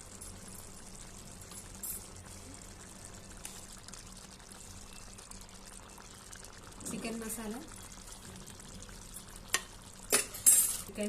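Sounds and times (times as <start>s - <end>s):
curry bubbling and sizzling in pan: 0.0s - 11.0s.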